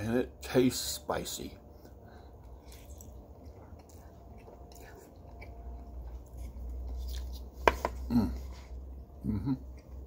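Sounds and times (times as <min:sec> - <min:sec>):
person chewing and slurping noodles: 0:01.9 - 0:10.0.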